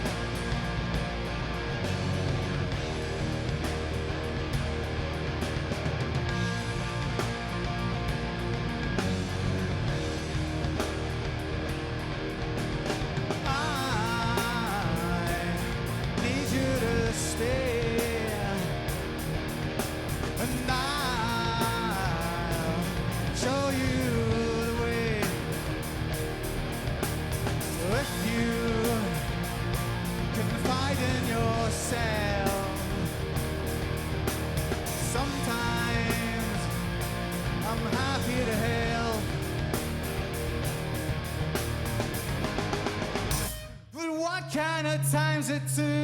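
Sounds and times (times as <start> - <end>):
drums with cymbal beat: 0.0 - 43.8
bass and electric guitars: 0.0 - 44.0.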